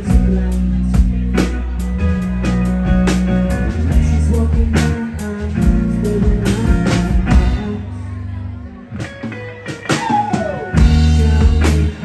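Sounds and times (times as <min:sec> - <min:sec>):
electric bass: 0:00.0 - 0:12.0
electric guitar: 0:00.0 - 0:12.0.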